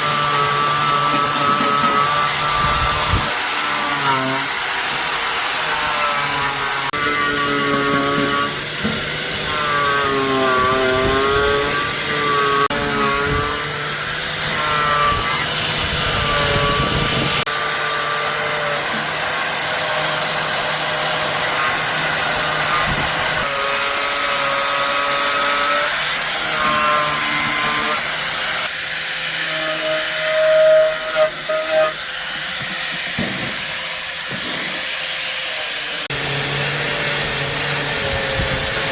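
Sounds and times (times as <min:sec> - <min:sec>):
electric power tool running: 0:00.0 - 0:38.9.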